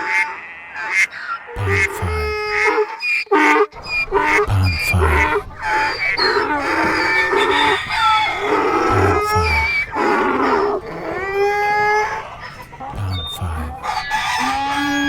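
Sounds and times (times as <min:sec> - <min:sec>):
farm animals calling: 0:00.0 - 0:15.0
fowl clucking: 0:00.0 - 0:15.0.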